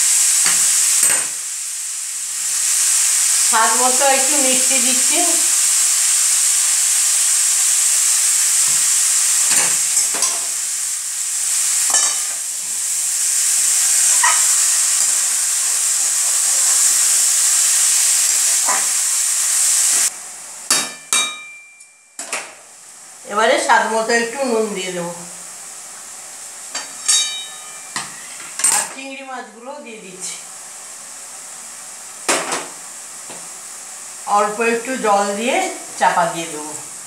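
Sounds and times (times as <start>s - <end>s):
vegetables sizzling in oil: 0.0s - 21.3s, 22.1s - 37.0s.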